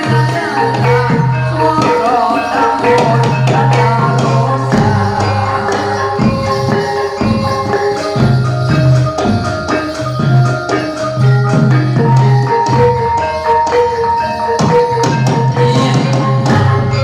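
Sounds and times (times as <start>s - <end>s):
hand drums: 0.0s - 17.0s
ringing metal percussion: 0.0s - 17.0s.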